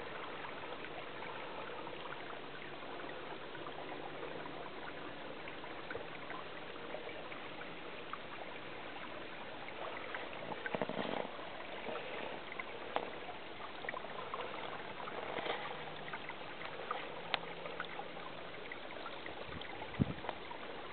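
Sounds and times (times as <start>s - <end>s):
running water rushing: 0.0s - 20.9s.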